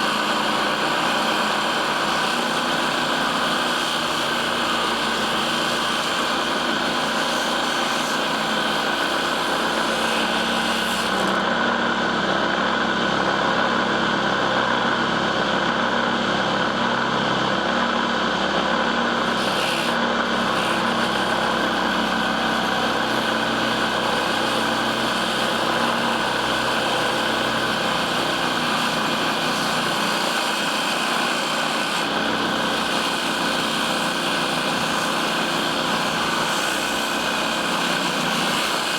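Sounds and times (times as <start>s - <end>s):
table saw running: 0.0s - 38.9s.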